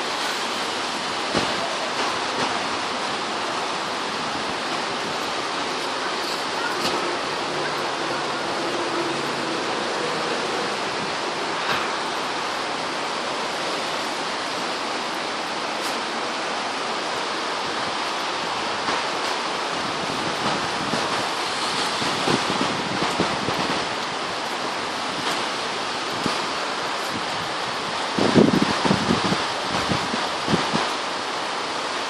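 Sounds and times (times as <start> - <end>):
raindrop taps and splashes: 0.0 - 32.0
steady rain falling: 0.0 - 32.0.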